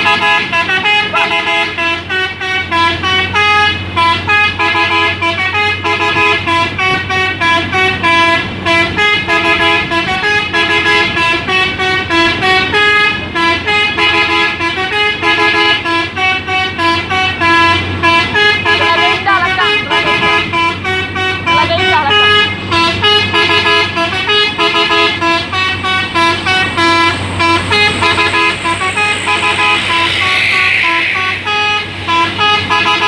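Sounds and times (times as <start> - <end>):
multi-tone horn melody: 0.0 - 33.0
truck engine hum: 0.0 - 33.0.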